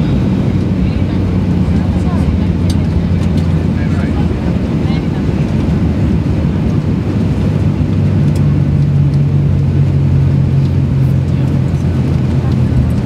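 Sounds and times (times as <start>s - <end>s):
airplane cabin rumble: 0.0s - 13.0s
jet engine hum: 0.0s - 13.0s.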